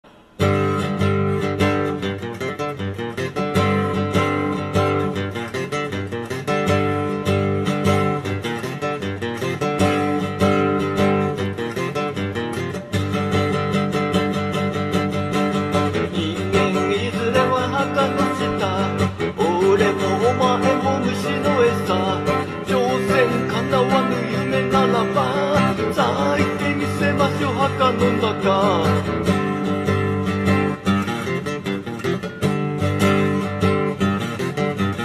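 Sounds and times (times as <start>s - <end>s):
strummed guitar music: 0.0s - 35.0s.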